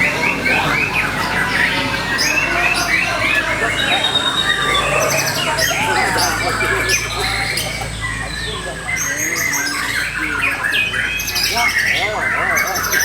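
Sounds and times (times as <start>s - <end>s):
bird singing rapid varied song: 0.0s - 13.0s.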